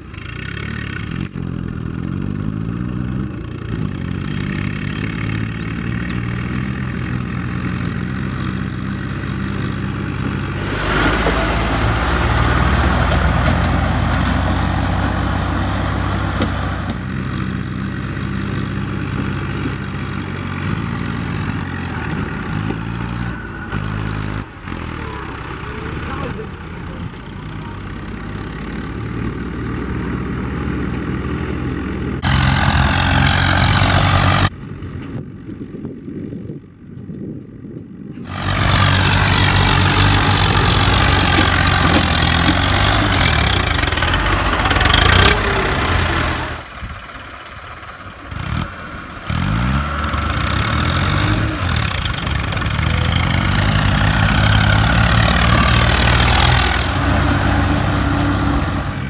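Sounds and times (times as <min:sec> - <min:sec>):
tractor engines revving: 0:00.0 - 0:59.0.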